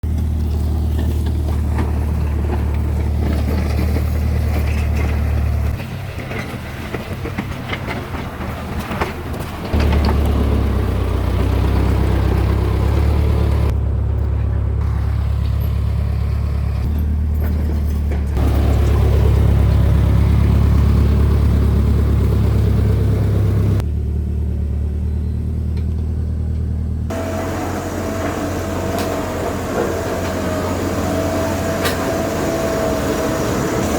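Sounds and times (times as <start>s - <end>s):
heavy diesel engines droning: 0.0s - 33.9s.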